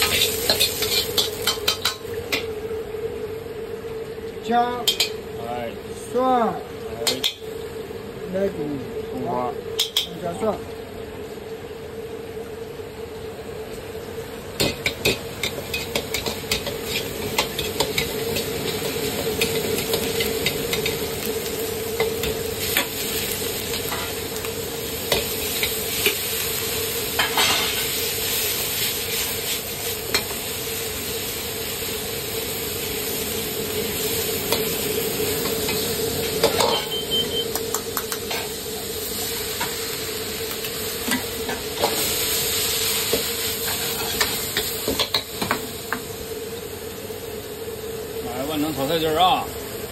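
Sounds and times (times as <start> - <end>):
food sizzling in a wok: 0.0 - 49.9.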